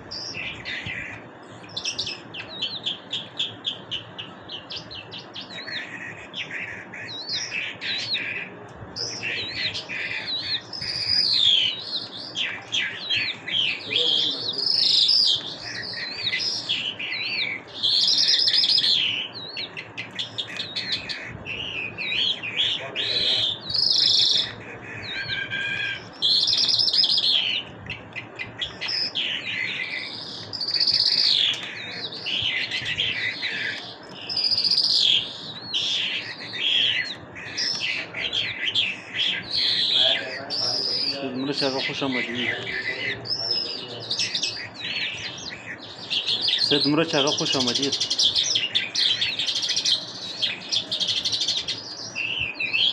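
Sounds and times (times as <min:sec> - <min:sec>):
lark singing: 0:00.0 - 0:52.9.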